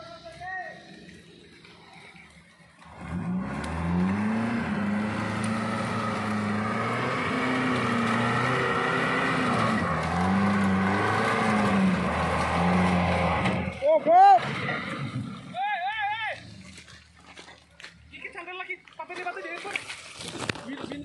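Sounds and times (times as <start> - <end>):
off-road vehicle engine under load: 0.0 - 18.2.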